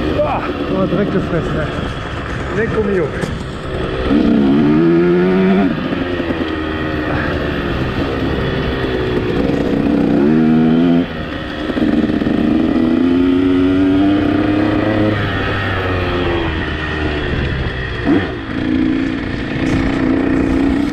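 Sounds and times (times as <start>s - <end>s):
motocross bike engine revving: 0.0s - 20.9s.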